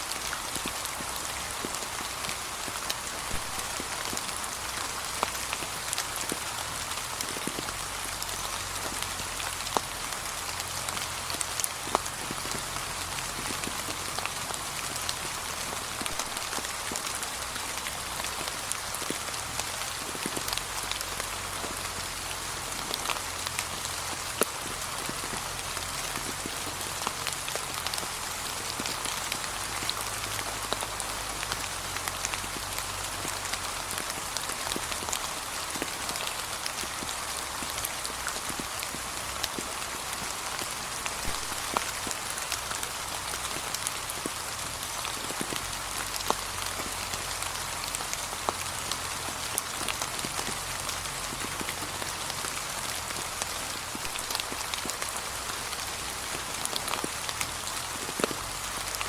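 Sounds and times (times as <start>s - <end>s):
light rain on leaves: 0.0s - 59.0s.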